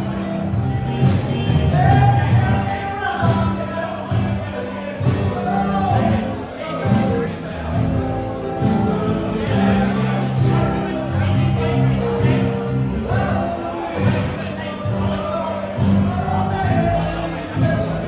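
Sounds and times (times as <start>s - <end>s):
live band music: 0.0s - 18.0s
person singing: 0.0s - 18.0s
steady drumbeat: 0.0s - 18.0s.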